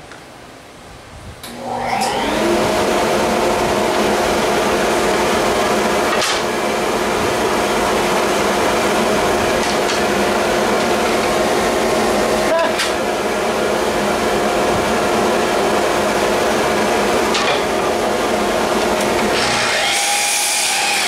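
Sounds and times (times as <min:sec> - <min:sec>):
dust collector motor humming: 0:01.4 - 0:21.0.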